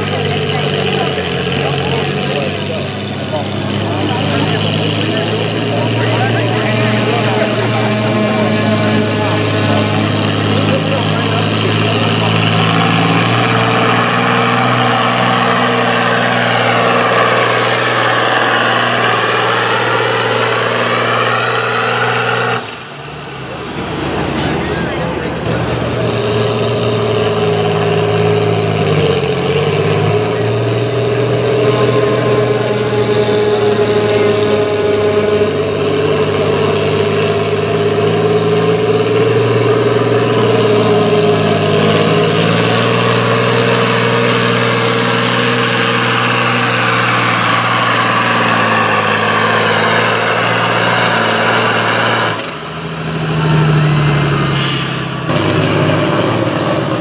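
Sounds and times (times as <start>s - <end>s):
tractor engine running hard: 0.0s - 57.0s.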